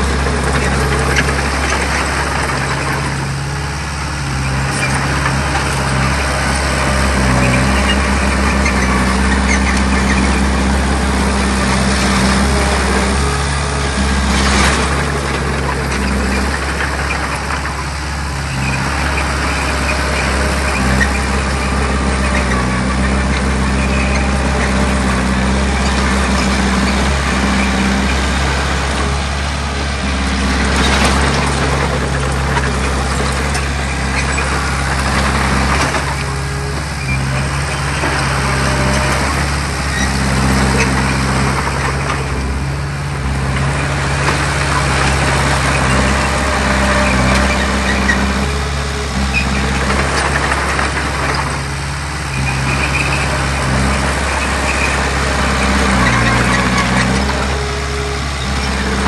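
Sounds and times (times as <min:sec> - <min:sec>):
heavy diesel machinery engine: 0:00.0 - 0:59.0
rough grinding noise: 0:00.0 - 0:59.0.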